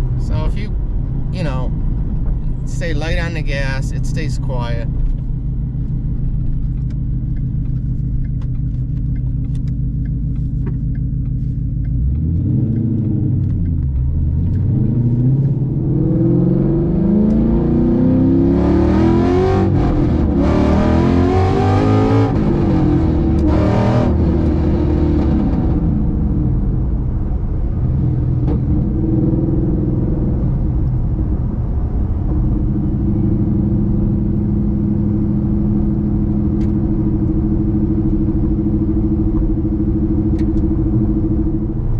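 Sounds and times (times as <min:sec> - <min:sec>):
car engine revving through gears: 0:06.3 - 0:27.0, 0:27.8 - 0:41.9.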